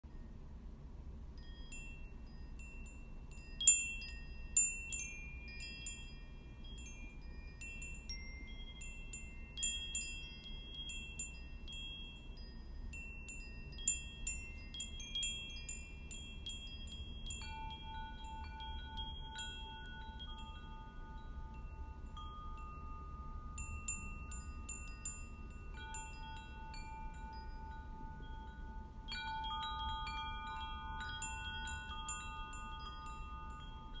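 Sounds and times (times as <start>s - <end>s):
chimes ringing: 1.4s - 34.0s.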